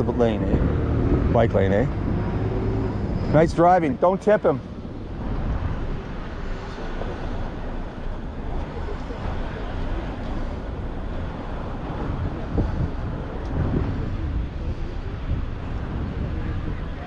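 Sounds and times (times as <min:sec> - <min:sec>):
street traffic rumble: 0:00.0 - 0:17.0
wind buffeting microphone: 0:00.0 - 0:17.0.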